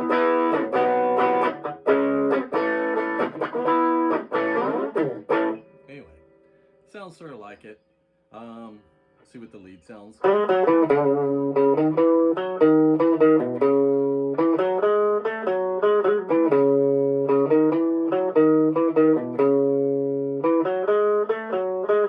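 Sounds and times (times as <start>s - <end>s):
distorted electric guitar lead: 0.0s - 6.4s, 10.2s - 22.0s.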